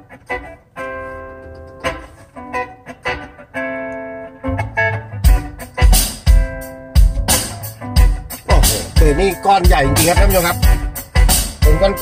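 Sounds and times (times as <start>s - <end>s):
blues guitar music over car speakers: 0.0s - 12.0s.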